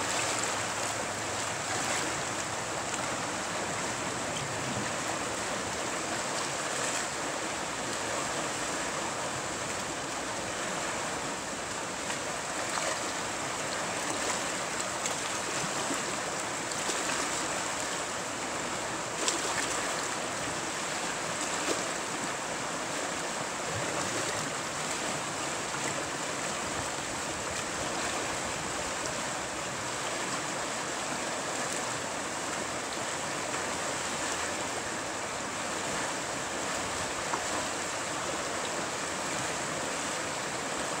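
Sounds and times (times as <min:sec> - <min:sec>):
river water rushing over rapids: 0:00.0 - 0:41.0.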